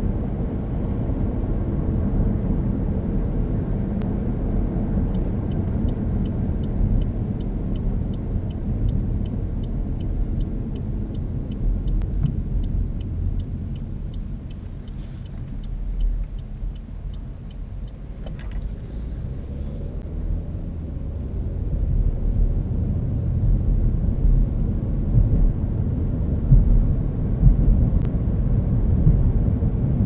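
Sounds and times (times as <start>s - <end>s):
car road and engine rumble: 0.0s - 30.0s
turn signal ticking: 4.0s - 30.0s.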